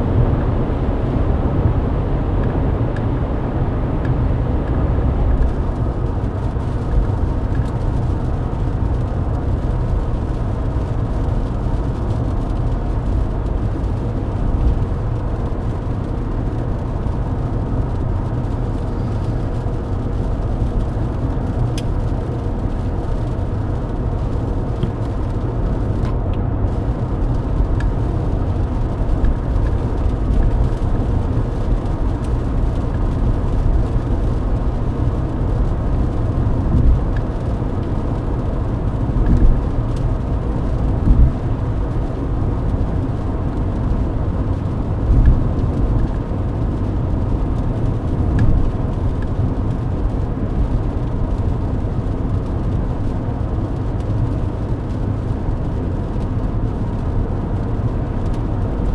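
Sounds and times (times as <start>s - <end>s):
car engine drone: 0.0s - 58.9s
tyres on wet road: 0.0s - 58.9s.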